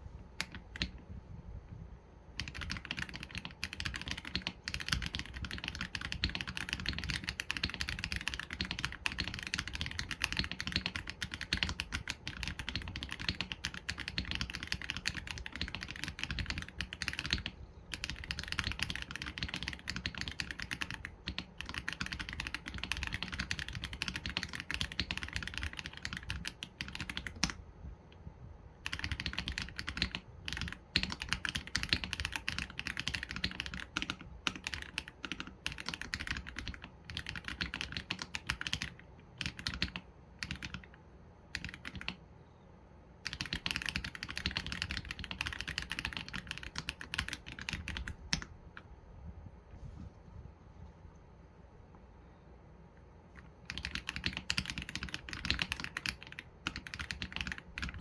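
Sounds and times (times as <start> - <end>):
typing on mechanical keyboard: 0.4 - 1.0, 2.3 - 27.6, 28.8 - 42.2, 43.2 - 48.9, 53.3 - 58.0.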